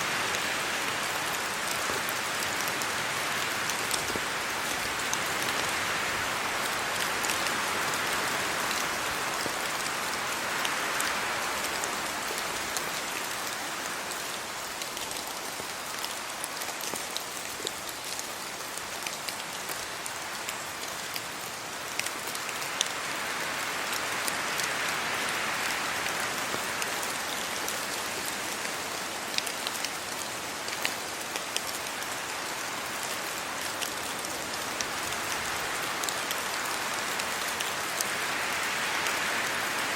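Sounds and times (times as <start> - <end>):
steady rain: 0.0 - 39.9
wind gusts in trees: 0.0 - 39.9.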